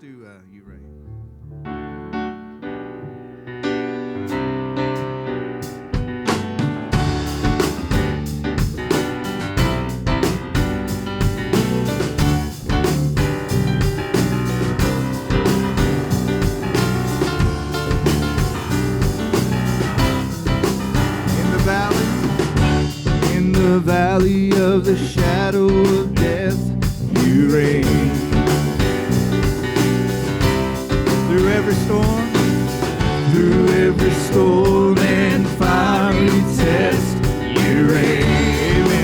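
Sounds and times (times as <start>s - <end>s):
keyboard playing: 1.6s - 24.3s, 27.3s - 39.0s
drum kit beat: 5.0s - 39.0s.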